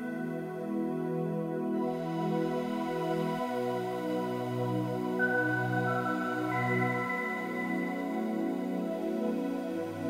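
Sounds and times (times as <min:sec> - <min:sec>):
slow music of held chords: 0:00.0 - 0:10.0.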